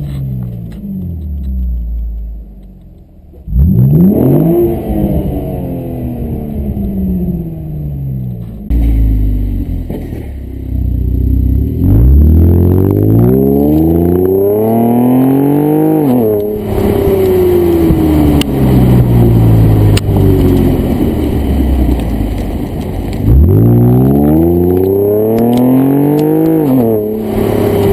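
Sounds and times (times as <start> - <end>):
car exhaust accelerating: 0.0 - 27.9
exhaust cracks: 0.0 - 27.9.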